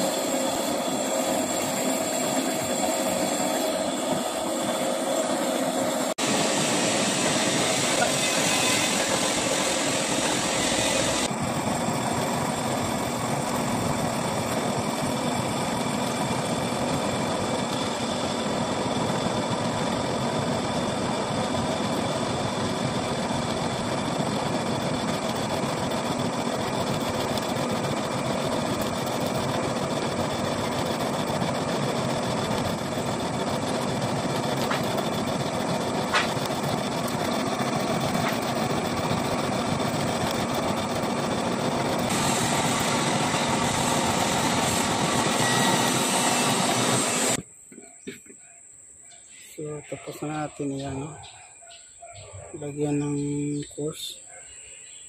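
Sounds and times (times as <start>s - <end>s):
metal lathe whining: 0.0s - 47.4s.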